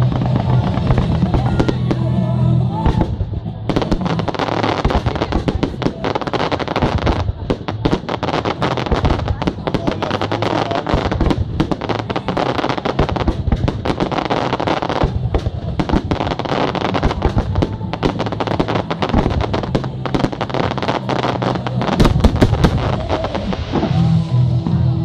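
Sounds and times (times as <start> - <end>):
fireworks crackling and banging: 0.0 - 24.2.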